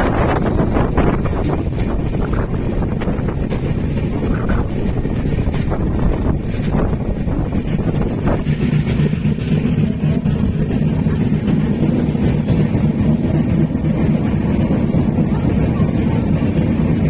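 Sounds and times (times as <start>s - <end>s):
train rumbling at speed: 0.0s - 17.0s.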